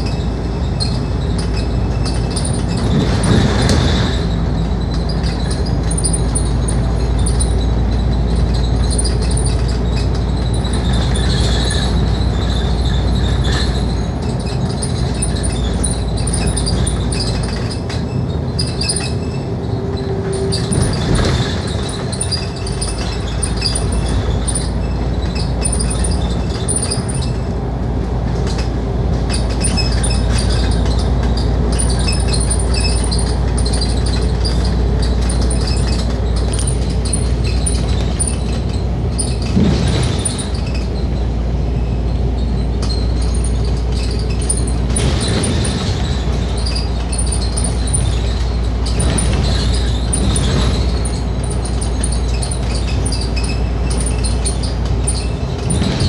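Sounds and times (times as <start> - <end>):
bus engine and road rumble: 0.0 - 56.0
bus fittings rattling: 0.0 - 56.0.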